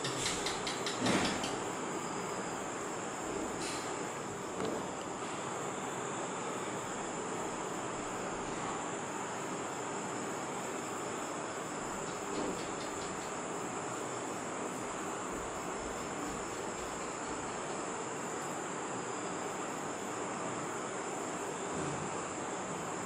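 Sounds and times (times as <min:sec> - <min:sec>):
background hiss: 0:00.0 - 0:23.0
cricket trilling: 0:00.0 - 0:23.0.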